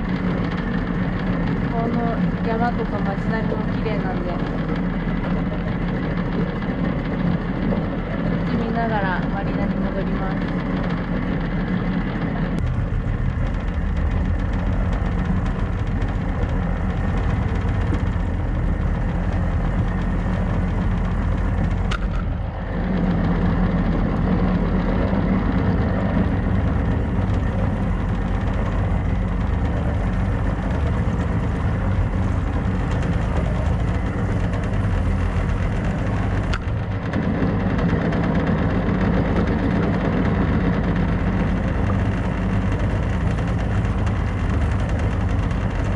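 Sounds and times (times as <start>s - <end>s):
small boat engine running: 0.0s - 45.9s
water rushing along hull: 0.0s - 45.9s.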